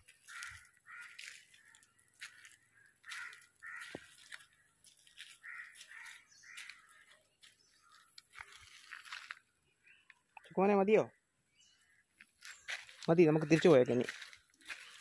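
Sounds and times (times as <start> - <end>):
crows cawing: 0.0 - 9.4, 11.8 - 15.0.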